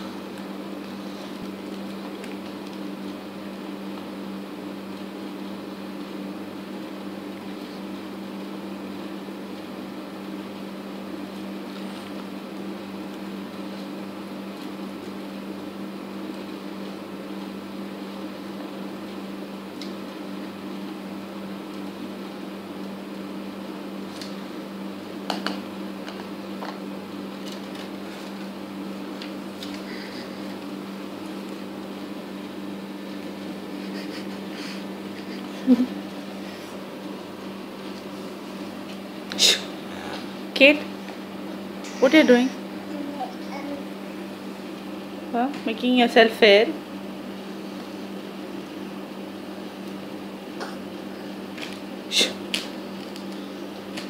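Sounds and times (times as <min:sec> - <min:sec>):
appliance humming: 0:00.0 - 0:54.0.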